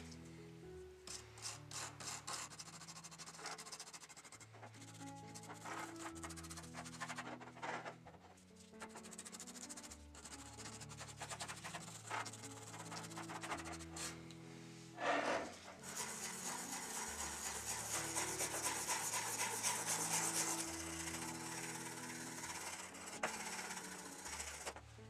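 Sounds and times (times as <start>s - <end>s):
stiff brush scrubbing: 1.1s - 8.0s, 8.6s - 14.2s, 15.8s - 24.8s.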